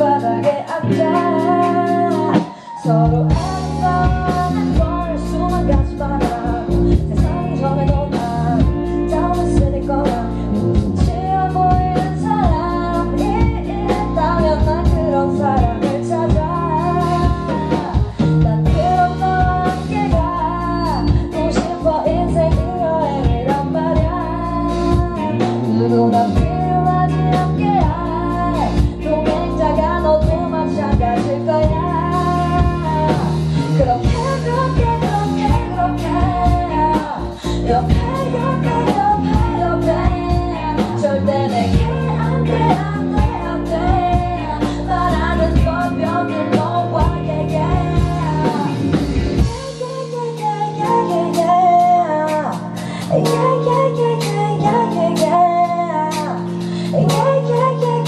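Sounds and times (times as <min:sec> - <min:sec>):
live band playing: 0:00.0 - 0:58.0
woman singing: 0:00.0 - 0:58.0.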